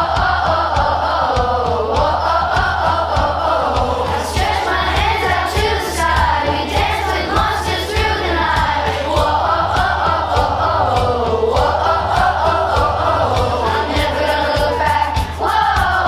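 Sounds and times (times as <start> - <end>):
group singing over a beat: 0.0 - 16.0.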